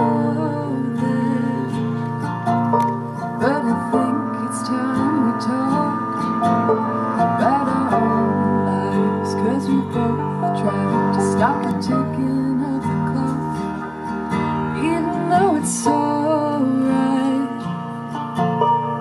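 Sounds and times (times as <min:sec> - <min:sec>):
bluegrass band playing: 0:00.0 - 0:17.2.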